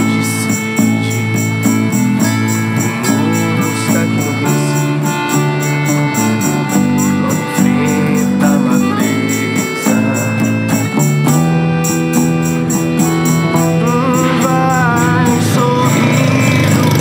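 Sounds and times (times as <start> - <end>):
acoustic guitar strummed: 0.0 - 17.0
bass line: 0.0 - 17.0
hand percussion rhythm: 0.0 - 17.0.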